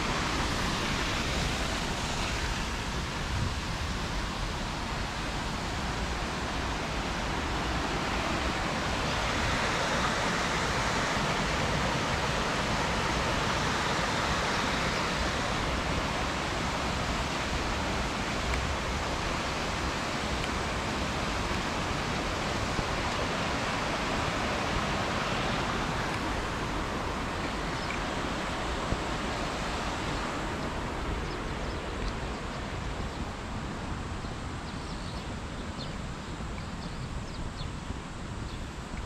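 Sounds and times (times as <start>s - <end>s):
mountain stream rushing: 0.0s - 39.0s.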